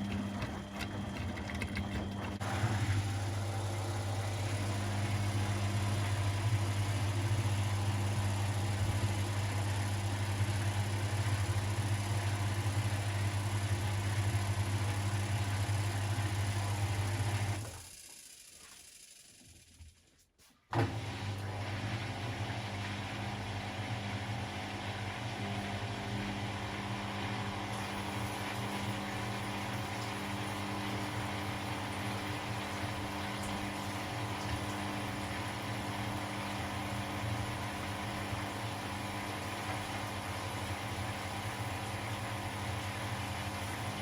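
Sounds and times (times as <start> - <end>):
laundry machine running: 0.0 - 17.9, 20.8 - 44.0.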